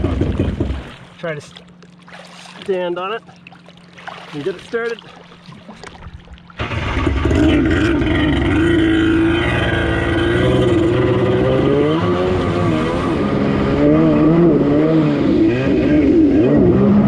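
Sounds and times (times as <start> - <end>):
jet ski engine running: 0.0 - 17.0.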